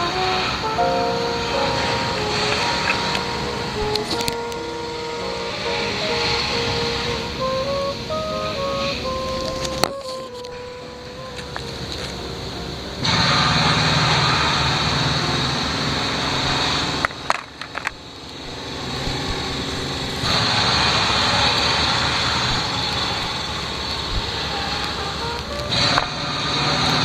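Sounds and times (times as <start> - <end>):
small engine hissing: 0.0 - 27.0.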